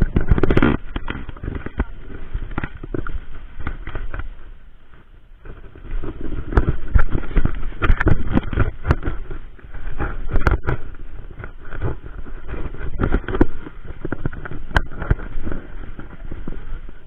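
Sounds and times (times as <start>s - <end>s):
fabric rustling against camera: 0.0s - 17.0s.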